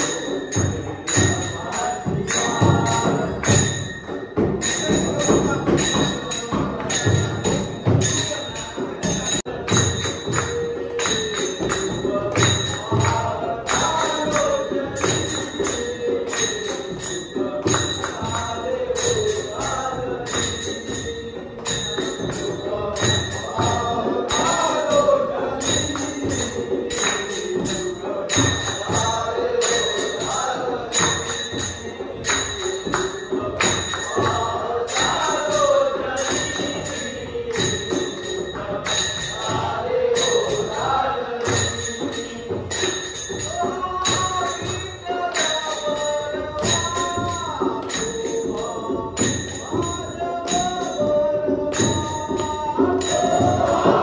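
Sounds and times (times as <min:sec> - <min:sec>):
brass hand cymbals: 0:00.0 - 0:54.0
drum keeping time: 0:00.0 - 0:54.0
men singing in chorus: 0:00.0 - 0:54.0.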